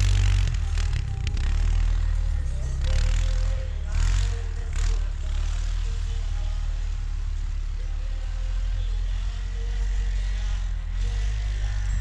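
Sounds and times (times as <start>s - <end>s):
atv engine rumbling: 0.0s - 12.0s.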